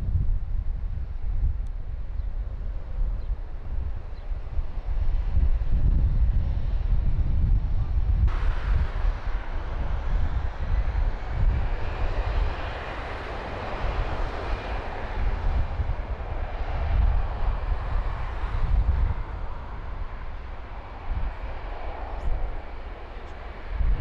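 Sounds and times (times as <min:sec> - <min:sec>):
gusty low rumble: 0:00.0 - 0:24.0
airliner passing: 0:01.1 - 0:24.0.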